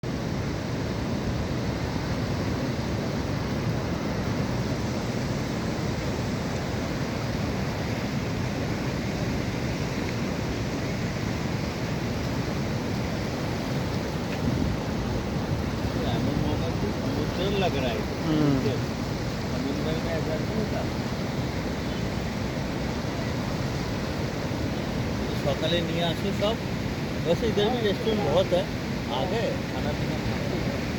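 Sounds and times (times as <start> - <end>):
river rushing: 0.0 - 30.9.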